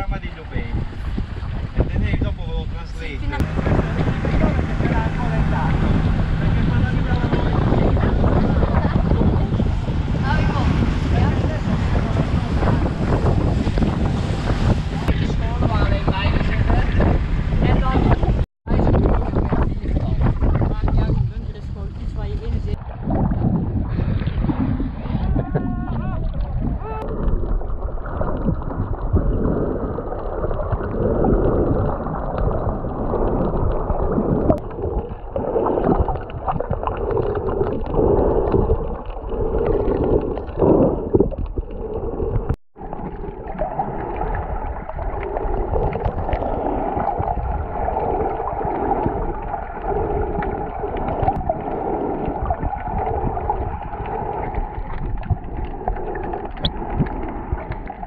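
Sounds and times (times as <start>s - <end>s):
underwater sloshing and gurgling: 0.0s - 58.0s.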